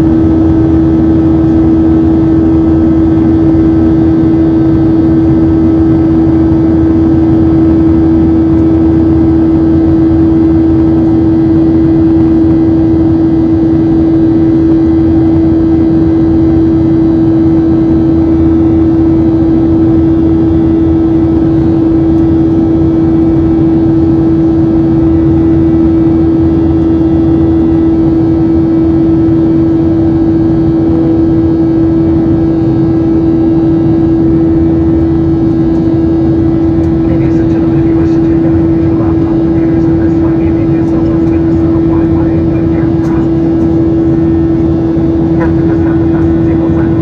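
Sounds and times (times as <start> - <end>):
jet engine cabin hum: 0.0 - 47.0.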